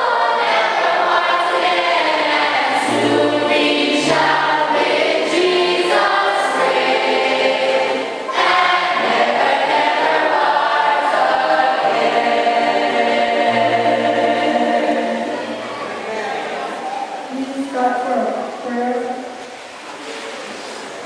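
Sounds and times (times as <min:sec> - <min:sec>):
choir singing a hymn: 0:00.0 - 0:16.9.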